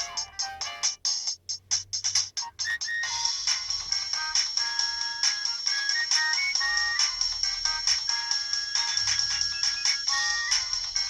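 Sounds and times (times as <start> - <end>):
mobile phone ringtone melody: 0.0 - 1.0, 2.5 - 11.0.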